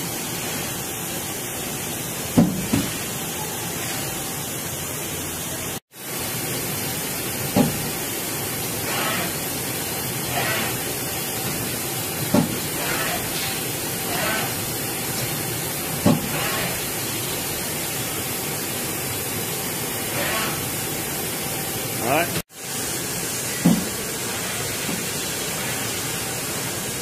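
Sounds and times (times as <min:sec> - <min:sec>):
lathe running with hiss: 0:00.0 - 0:27.0.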